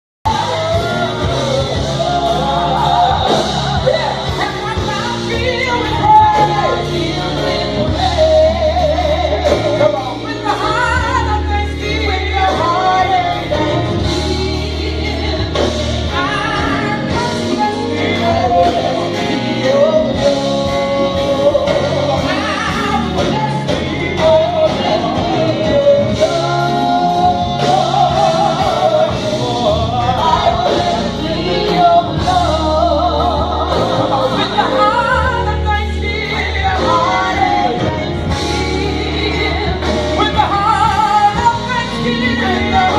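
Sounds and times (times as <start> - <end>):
band playing: 0.2 - 42.9
sustained bass notes: 0.2 - 42.9
voices singing gospel: 0.3 - 42.9.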